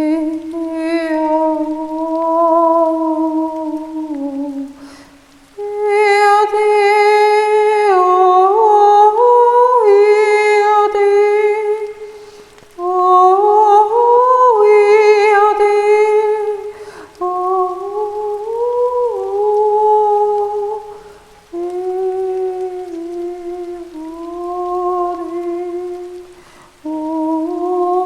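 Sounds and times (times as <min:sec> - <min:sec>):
woman singing wordlessly: 0:00.0 - 0:28.0.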